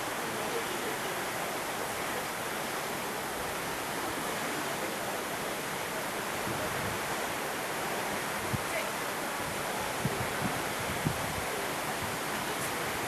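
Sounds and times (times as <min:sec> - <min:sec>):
wind and water rushing hiss: 0:00.0 - 0:13.0.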